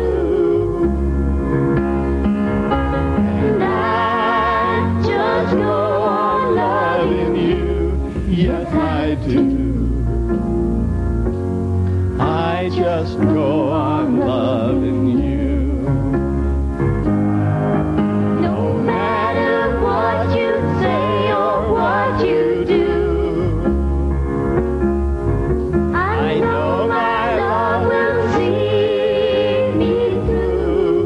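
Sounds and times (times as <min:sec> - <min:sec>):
instrumental backing with bass line: 0:00.0 - 0:31.0.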